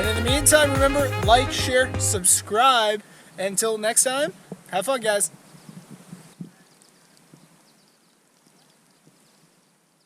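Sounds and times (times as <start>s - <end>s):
faint outdoor hiss: 0.0s - 10.0s.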